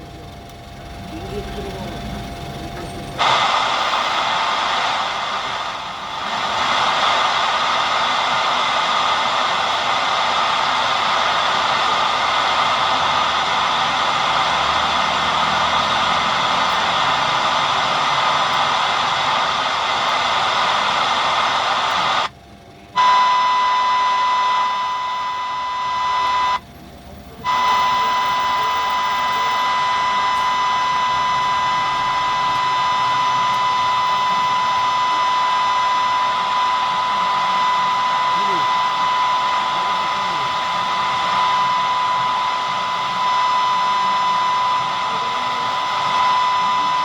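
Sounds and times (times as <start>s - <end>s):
steady pure high tone: 0.0s - 26.7s, 27.3s - 47.0s
electronic hiss: 3.2s - 22.3s, 27.4s - 47.0s.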